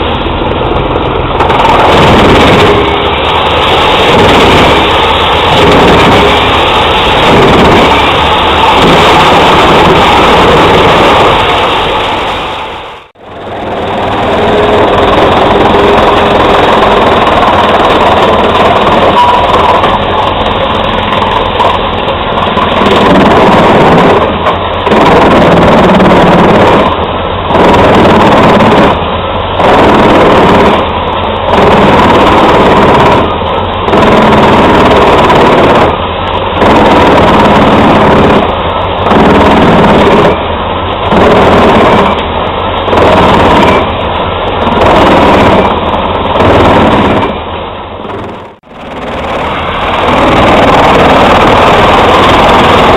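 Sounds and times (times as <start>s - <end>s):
wood chipper chipping wood: 0.0s - 52.9s.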